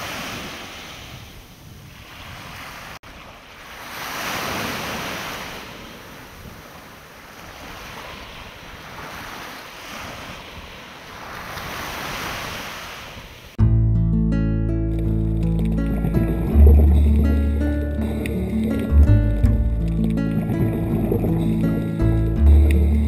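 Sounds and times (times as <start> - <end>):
sea waves: 0.0 - 13.6, 14.6 - 23.0.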